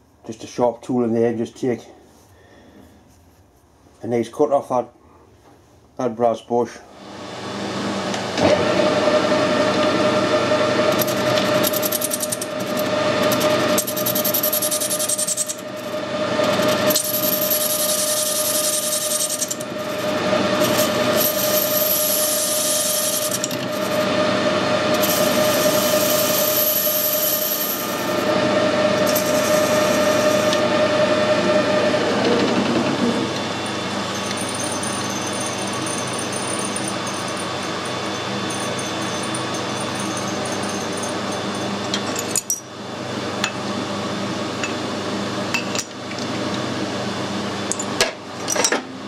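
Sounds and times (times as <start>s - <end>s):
metal lathe whine: 7.0s - 47.8s.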